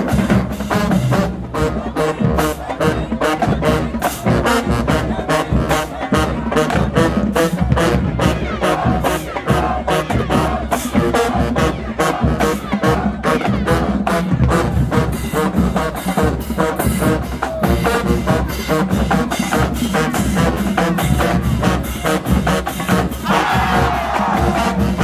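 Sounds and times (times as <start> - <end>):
brass held notes: 0.0 - 25.0
marching band drum line: 0.0 - 25.0.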